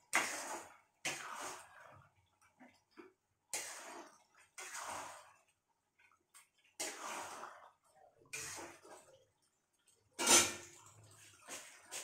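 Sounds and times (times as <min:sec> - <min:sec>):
metal spoon stirring in pot: 0:00.0 - 0:05.5, 0:06.4 - 0:12.0.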